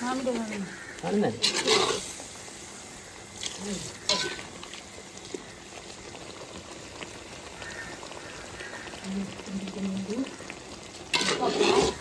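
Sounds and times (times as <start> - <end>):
curry bubbling and sizzling in pot: 0.0 - 12.0.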